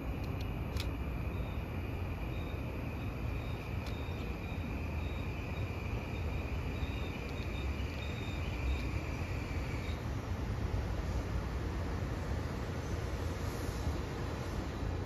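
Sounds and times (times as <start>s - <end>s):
insects chirping: 0.0s - 15.0s
train low rumble: 0.0s - 15.0s.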